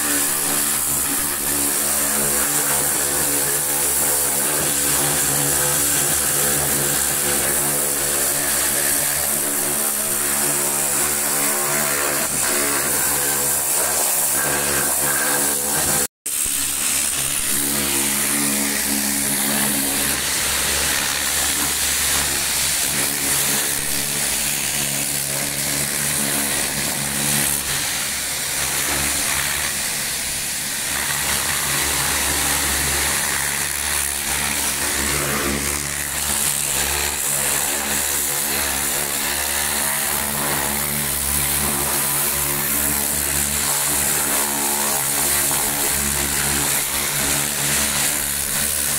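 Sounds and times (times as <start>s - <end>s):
pressure washer running: 0.0s - 48.9s.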